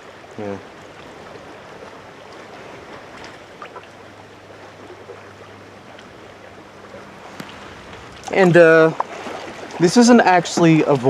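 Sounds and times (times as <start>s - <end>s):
paddle drips and splashes: 0.0s - 11.0s
water lapping and trickling: 0.0s - 11.0s.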